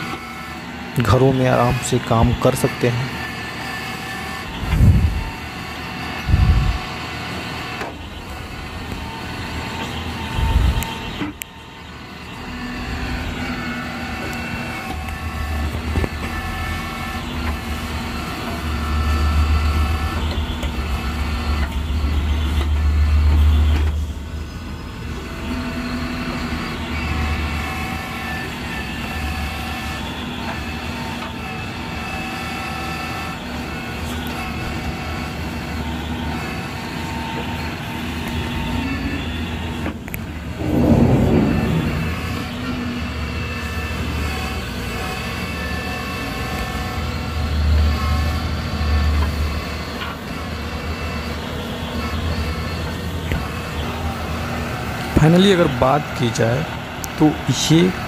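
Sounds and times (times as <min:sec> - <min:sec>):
hydraulic whine: 0:00.0 - 0:58.0
tractor diesel engine running: 0:00.0 - 0:58.0.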